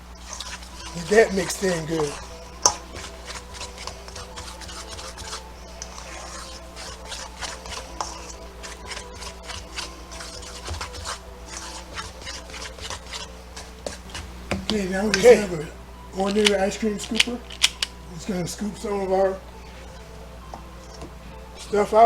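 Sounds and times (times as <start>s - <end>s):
batter stirred in a bowl: 0.0s - 19.0s.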